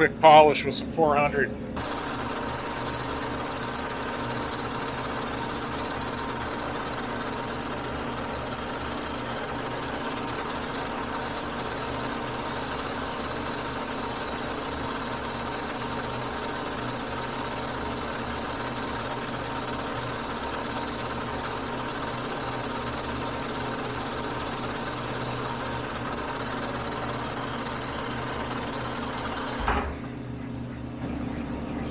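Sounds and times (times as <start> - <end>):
metal lathe running: 1.8 - 29.9.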